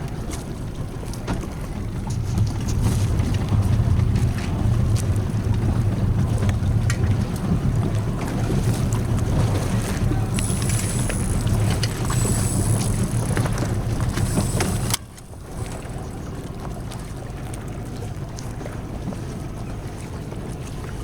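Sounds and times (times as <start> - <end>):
low boat rumble: 0.0 - 21.0
wind and water rushing: 0.0 - 21.0.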